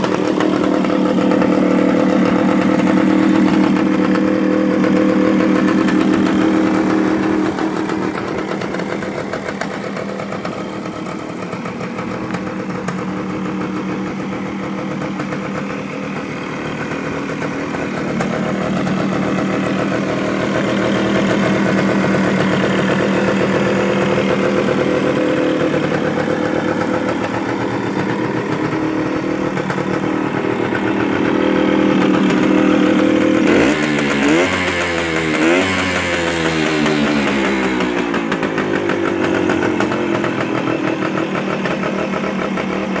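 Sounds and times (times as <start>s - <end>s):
two-stroke engine idling and revving: 0.0s - 43.0s.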